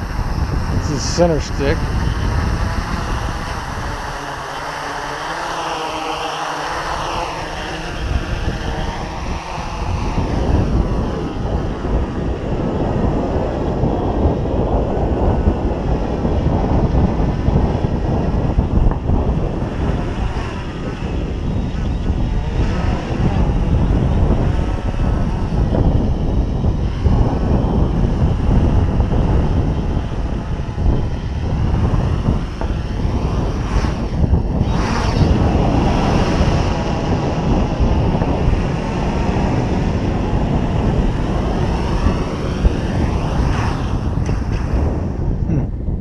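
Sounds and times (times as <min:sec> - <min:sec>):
quadcopter propellers buzzing: 0:00.0 - 0:46.0.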